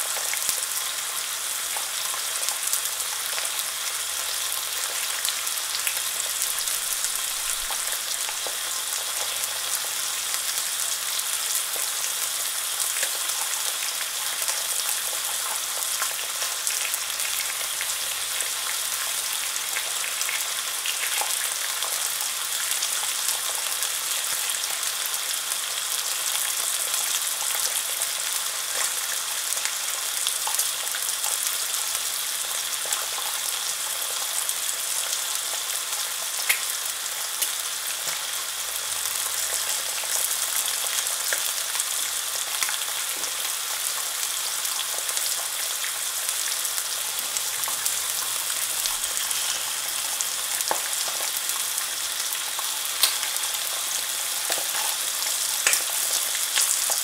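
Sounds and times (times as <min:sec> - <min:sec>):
bacon sizzling in a pan: 0:00.0 - 0:57.0.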